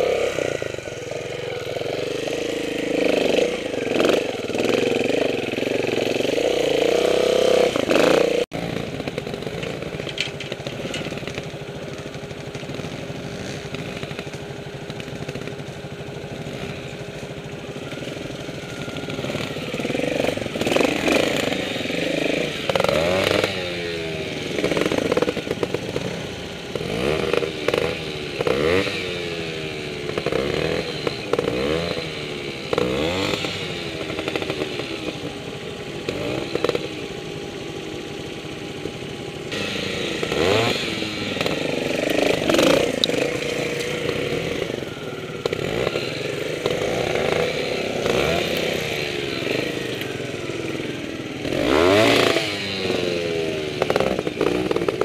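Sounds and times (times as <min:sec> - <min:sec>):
steady low engine note: 0:00.0 - 0:07.9, 0:08.5 - 0:55.0
motorcycle engines revving: 0:00.0 - 0:55.0.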